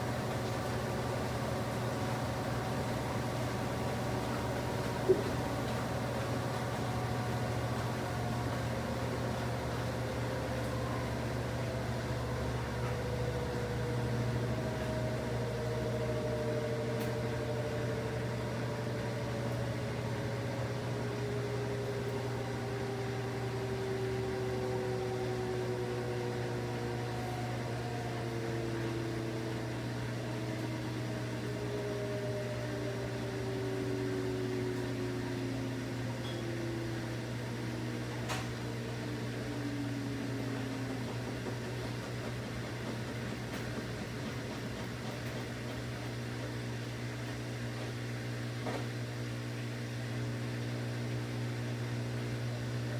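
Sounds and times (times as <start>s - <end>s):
washing machine humming: 0.0s - 52.9s.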